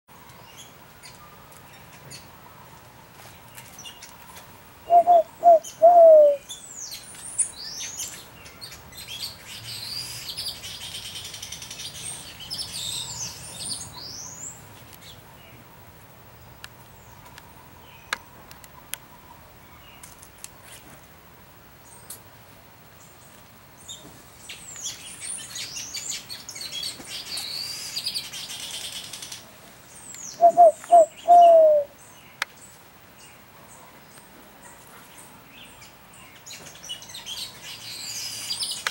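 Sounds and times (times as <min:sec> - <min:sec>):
birds twittering and chattering: 0:00.1 - 0:38.9.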